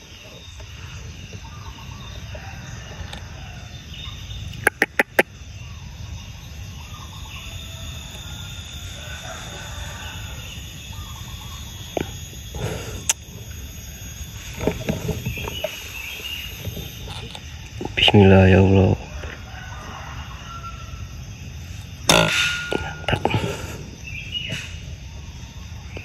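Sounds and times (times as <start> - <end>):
birds calling faintly: 0.0 - 26.0.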